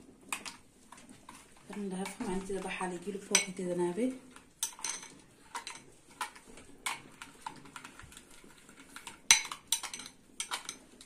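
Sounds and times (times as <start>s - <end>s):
spoon stirring thick mixture: 0.0s - 11.0s.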